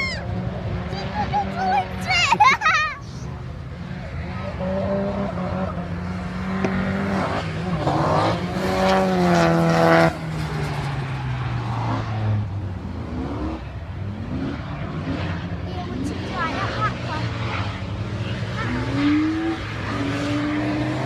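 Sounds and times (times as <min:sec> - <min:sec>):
car engine revving hard: 0:04.0 - 0:21.0.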